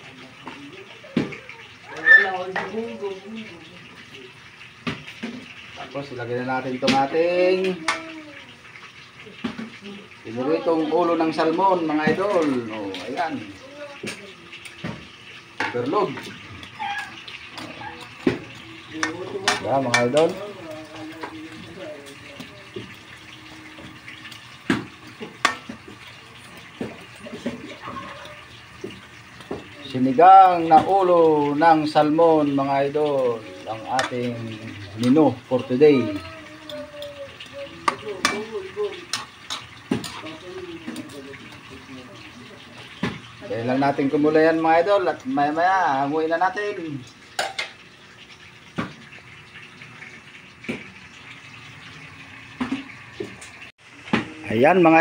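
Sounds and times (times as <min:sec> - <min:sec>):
soup boiling: 0:00.0 - 0:55.0.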